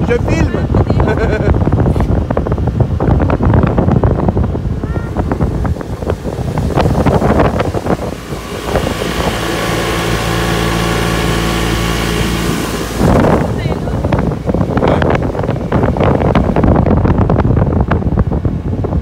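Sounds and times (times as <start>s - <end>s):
motorboat engine running: 0.0s - 19.0s
rushing boat wake: 0.0s - 19.0s
wind buffeting microphone: 0.0s - 19.0s.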